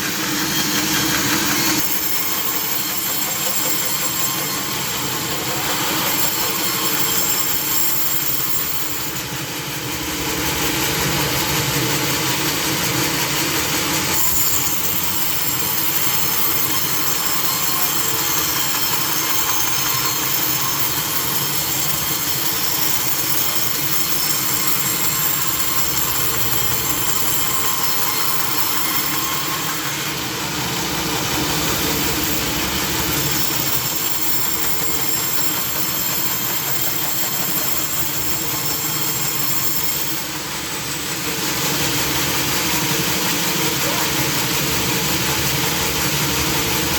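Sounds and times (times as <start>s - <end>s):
sawmill machinery humming: 0.0s - 46.9s.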